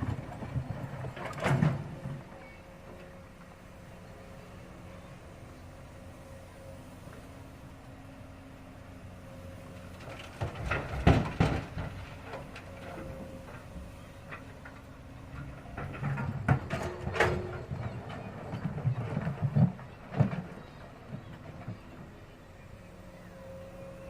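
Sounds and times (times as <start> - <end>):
excavator engine humming: 0.0 - 24.0.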